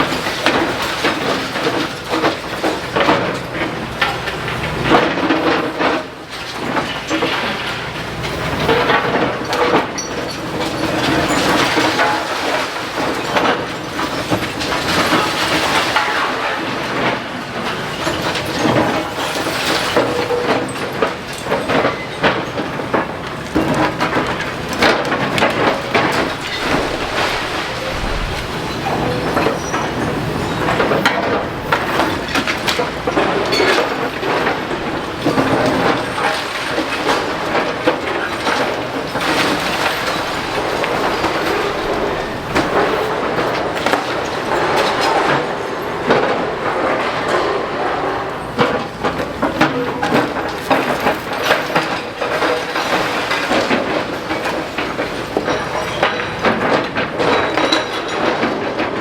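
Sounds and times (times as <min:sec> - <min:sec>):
excavator knocks and impacts: 0:00.0 - 0:47.5
rubble clattering and crunching: 0:00.0 - 0:59.0.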